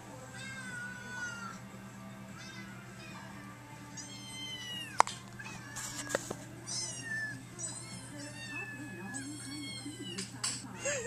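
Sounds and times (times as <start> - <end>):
cats meowing: 0.2 - 10.9.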